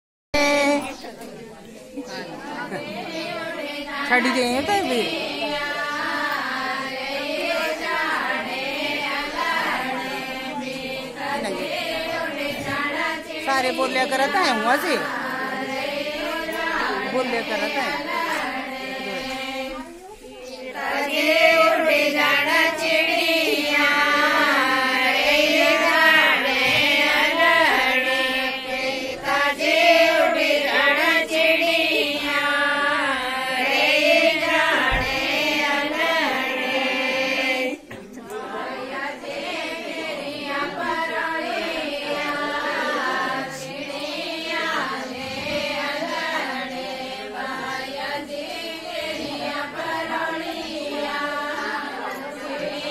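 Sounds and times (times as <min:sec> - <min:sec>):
women singing folk song: 0:00.4 - 0:52.9.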